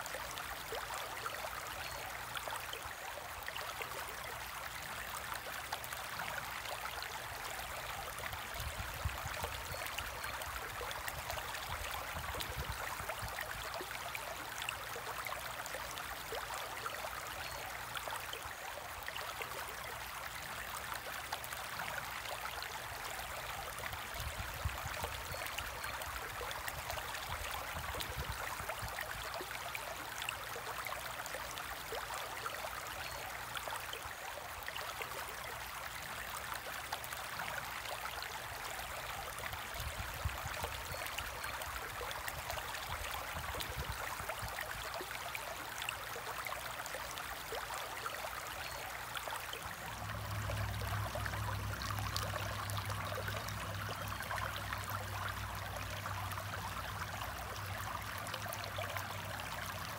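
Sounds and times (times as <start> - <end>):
aquarium water trickling and bubbling: 0.0 - 59.9.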